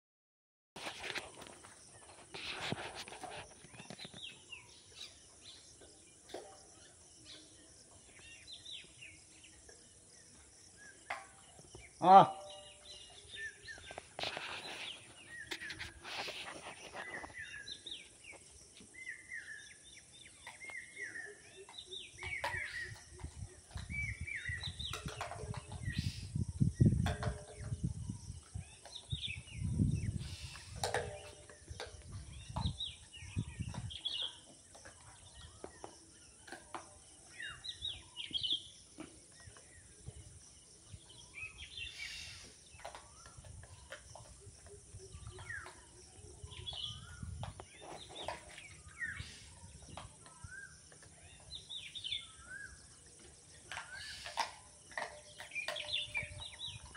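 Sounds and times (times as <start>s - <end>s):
small birds chirping: 0.8s - 56.9s.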